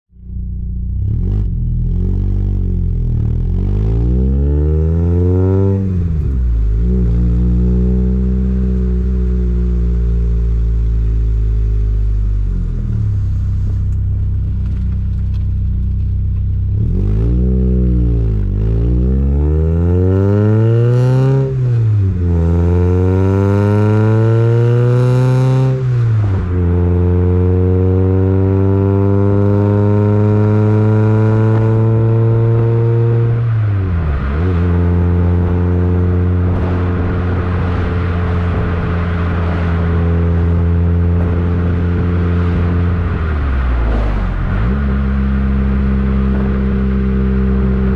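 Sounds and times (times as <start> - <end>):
car engine and exhaust accelerating: 0.1 - 47.9.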